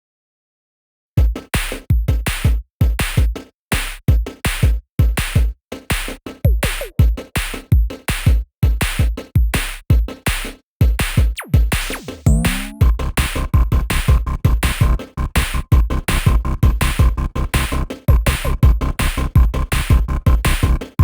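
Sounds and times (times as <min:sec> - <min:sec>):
deep kick drums: 0:01.2 - 0:05.6, 0:06.5 - 0:10.2, 0:10.8 - 0:20.8
electronic music with drum-machine beat: 0:01.2 - 0:21.0.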